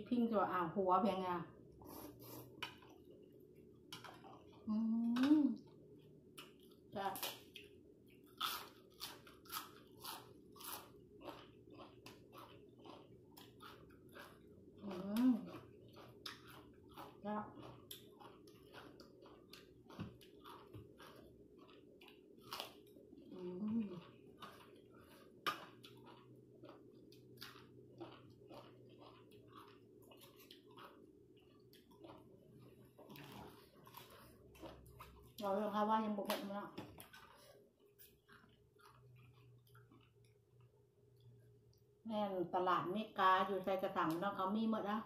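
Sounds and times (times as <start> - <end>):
chewing crunchy food: 1.8 - 41.9.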